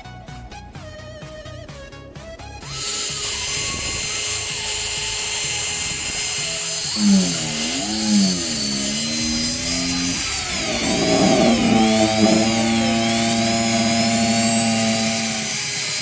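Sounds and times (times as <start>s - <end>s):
drill bit scratching into wood: 2.6s - 16.0s
small drill motor whining: 2.6s - 16.0s.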